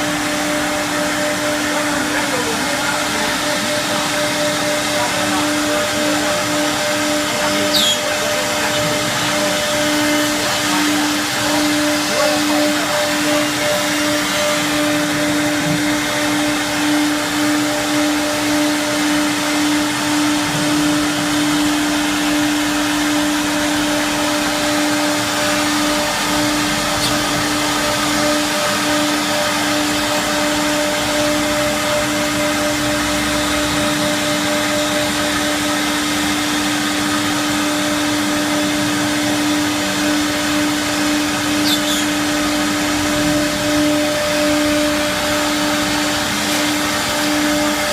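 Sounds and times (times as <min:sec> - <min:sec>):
wood router whining: 0:00.0 - 0:47.9.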